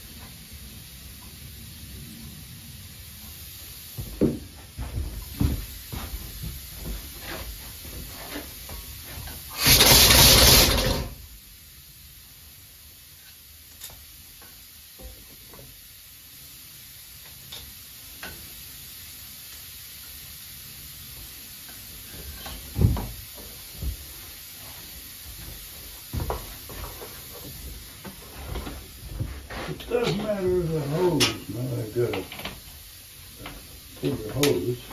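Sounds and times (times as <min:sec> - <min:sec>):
hiss of compressed air: 0:00.0 - 0:34.9.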